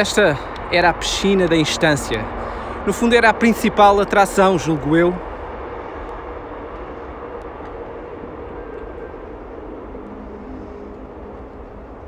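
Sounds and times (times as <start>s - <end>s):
distant motorway traffic rumble: 0.0s - 12.0s
faint steady hum: 0.0s - 12.0s.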